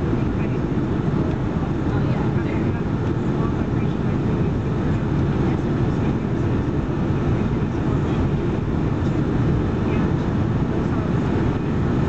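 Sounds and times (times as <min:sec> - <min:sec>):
airflow over fuselage: 0:00.0 - 0:12.0
airplane cabin engine roar: 0:00.0 - 0:12.0.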